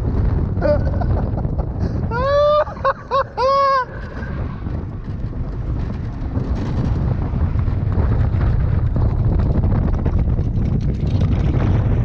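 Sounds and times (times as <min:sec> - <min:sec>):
wheels rolling rumble: 0:00.0 - 0:12.0
wind buffeting microphone: 0:00.0 - 0:12.0.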